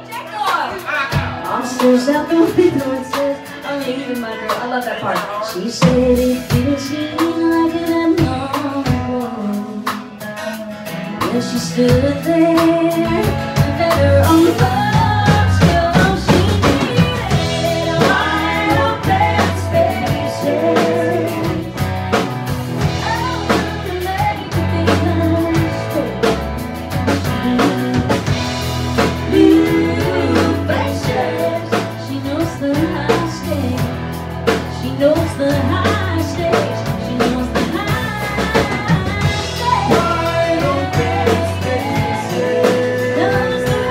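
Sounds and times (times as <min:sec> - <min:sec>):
drums: 0:00.0 - 0:43.9
woman singing: 0:01.4 - 0:10.2, 0:11.2 - 0:22.2, 0:22.8 - 0:43.9
electric bass: 0:05.8 - 0:43.9.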